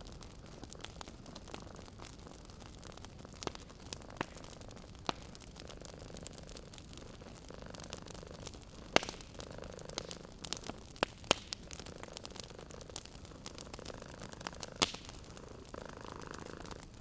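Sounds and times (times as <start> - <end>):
loud fire pops: 0.0 - 17.0
wood fire crackling: 0.0 - 17.0.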